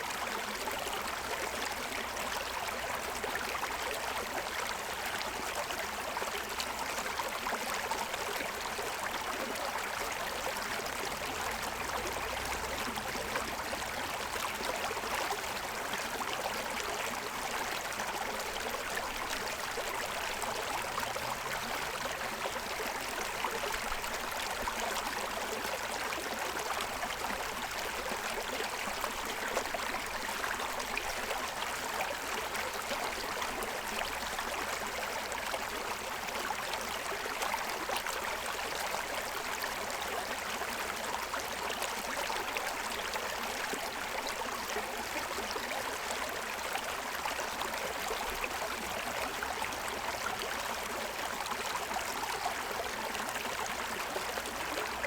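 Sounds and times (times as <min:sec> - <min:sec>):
stream babbling over stones: 0:00.1 - 0:55.0.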